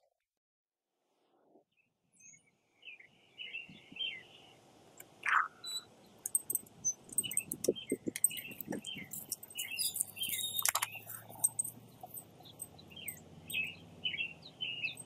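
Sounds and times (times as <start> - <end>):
small birds chirping: 1.8 - 15.0.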